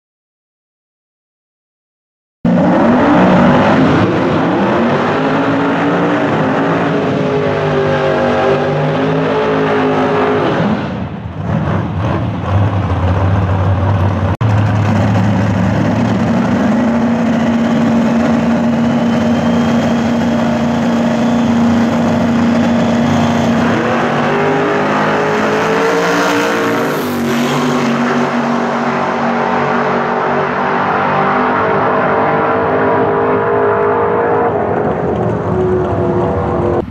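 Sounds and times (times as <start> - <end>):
cars launching: 2.5 - 36.9
drag racing engines revving: 2.5 - 36.9.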